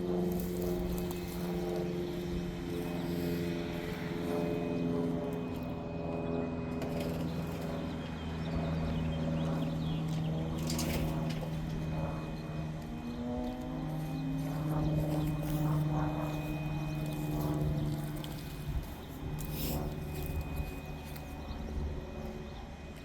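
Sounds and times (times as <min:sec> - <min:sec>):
electric chainsaw cutting log: 0:00.0 - 0:05.9, 0:09.7 - 0:23.0.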